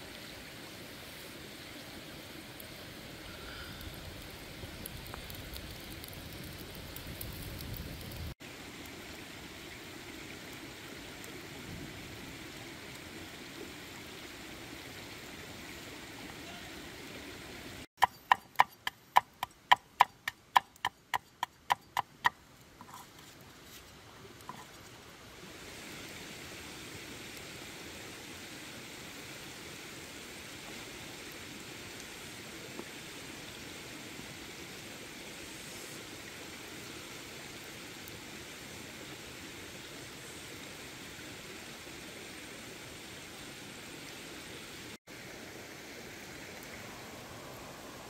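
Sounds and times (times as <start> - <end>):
stream water rushing: 8.4 - 48.0.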